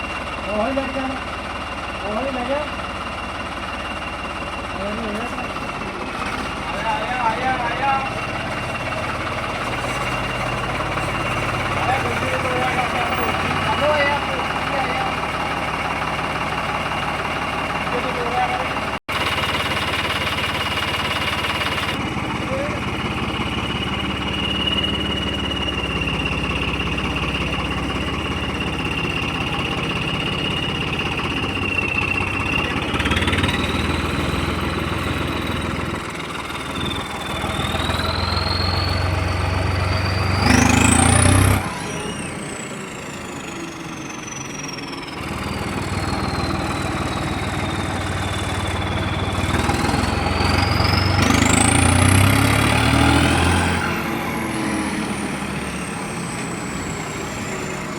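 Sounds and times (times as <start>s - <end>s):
high engine whine: 0.0s - 57.9s
tractor diesel engine revving: 0.0s - 57.9s.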